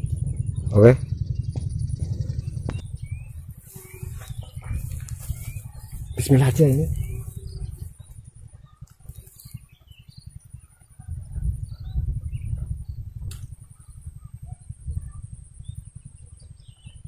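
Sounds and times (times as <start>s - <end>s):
faint bird chirps: 0.0s - 17.0s
thin high steady whine: 0.0s - 17.0s
wind buffeting microphone: 0.0s - 17.0s.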